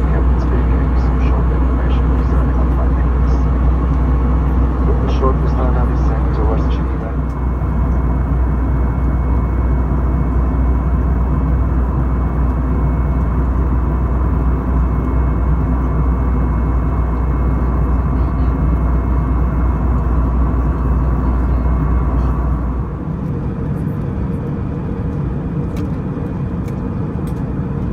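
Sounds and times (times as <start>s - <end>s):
faint steady whine: 0.0s - 26.0s
aircraft cabin rumble: 0.0s - 27.9s.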